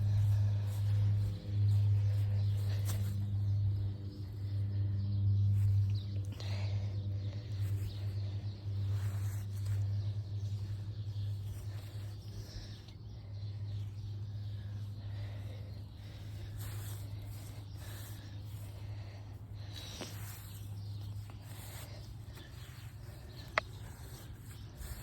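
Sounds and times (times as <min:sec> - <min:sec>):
person breathing heavily: 0:00.0 - 0:25.0
steady low hum: 0:00.0 - 0:25.0.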